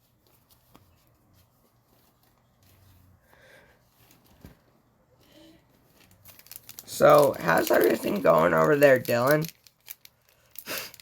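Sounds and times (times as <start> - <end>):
soft handling sounds: 0.0 - 10.6.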